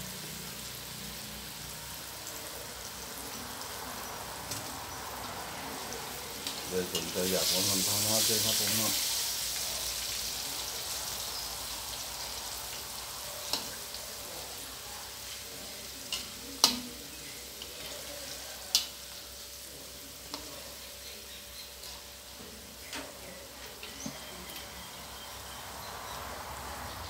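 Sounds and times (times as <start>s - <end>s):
food deep-frying in oil: 0.0s - 27.0s.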